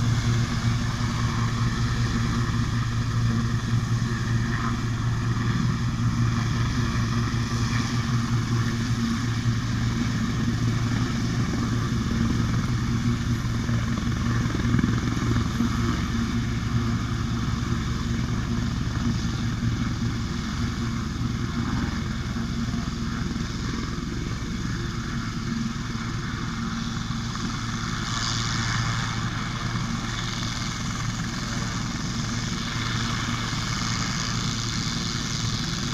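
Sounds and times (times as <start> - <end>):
helicopter engine and rotor: 0.0 - 35.9.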